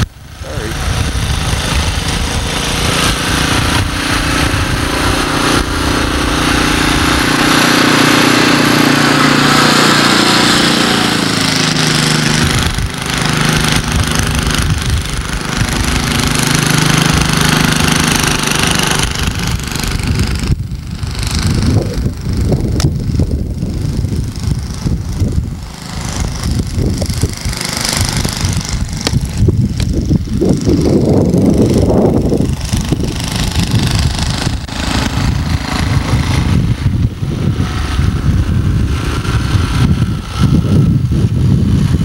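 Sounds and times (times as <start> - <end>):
snowblower engine running: 0.0 - 42.0.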